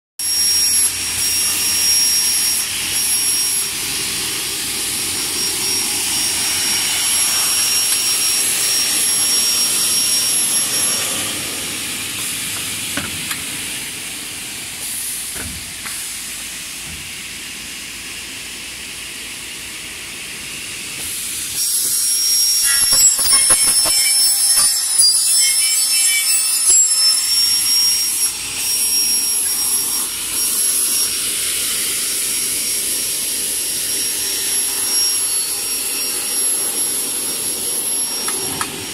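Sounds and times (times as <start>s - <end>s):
saw cutting aluminium: 0.2s - 15.4s, 20.8s - 38.9s.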